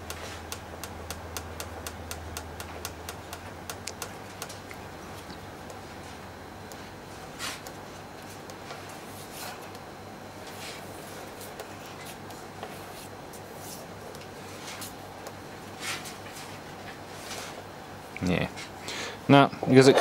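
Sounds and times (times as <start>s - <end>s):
low hum and hiss: 0.0s - 20.0s.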